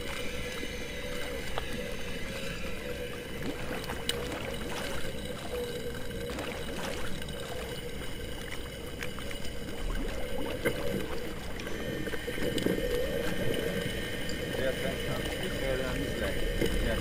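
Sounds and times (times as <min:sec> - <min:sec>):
air bubbles gurgling underwater: 0:00.0 - 0:17.0
wavering hum: 0:00.0 - 0:17.0.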